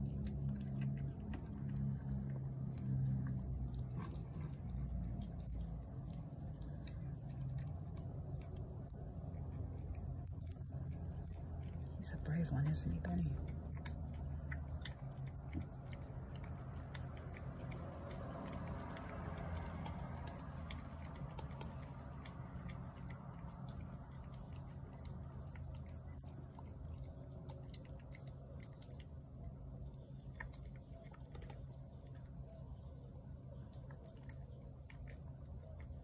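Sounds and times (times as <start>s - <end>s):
cat chewing and lapping: 0.0s - 36.0s
steady low hum: 0.0s - 36.0s.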